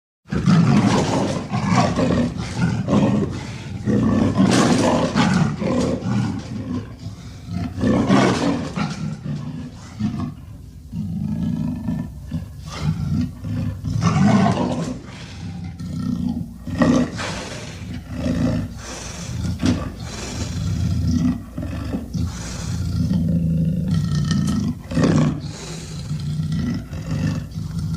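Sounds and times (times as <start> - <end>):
deep growls and snarling roars: 0.3 - 27.9.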